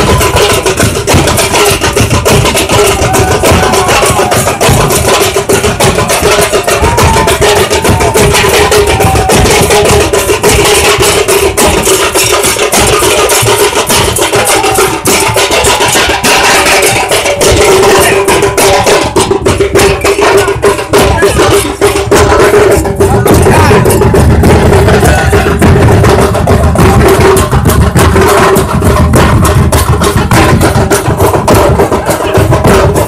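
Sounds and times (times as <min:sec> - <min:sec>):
barrel drums beaten fast: 0:00.0 - 0:33.0.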